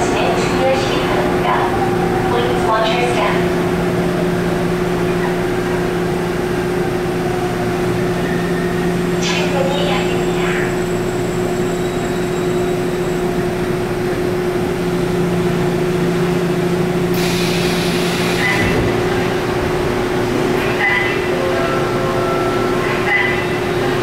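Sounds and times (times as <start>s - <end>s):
subway train hum and rolling: 0.0s - 24.0s.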